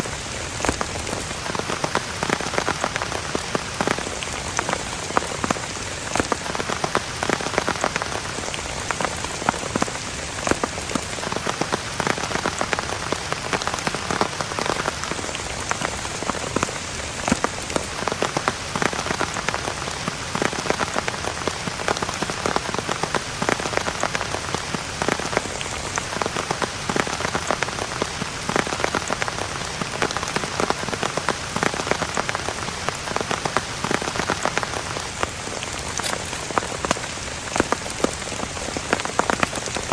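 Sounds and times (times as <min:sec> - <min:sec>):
heavy rain falling: 0:00.0 - 0:39.9
raindrops hitting a surface: 0:00.0 - 0:39.9.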